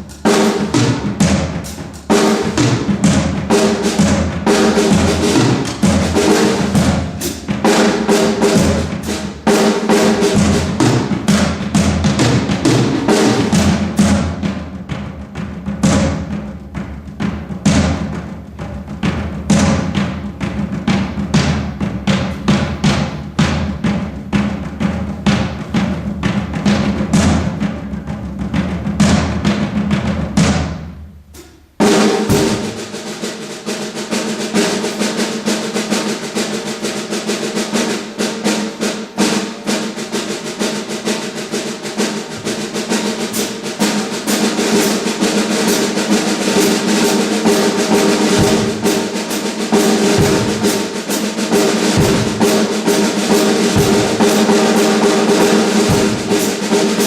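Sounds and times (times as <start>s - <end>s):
snare drumming: 0.0s - 57.0s.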